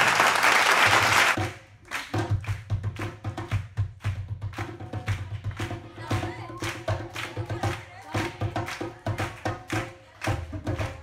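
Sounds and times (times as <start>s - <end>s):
applause: 0.0s - 5.8s, 6.6s - 10.9s
djembe hand drums: 1.4s - 11.0s.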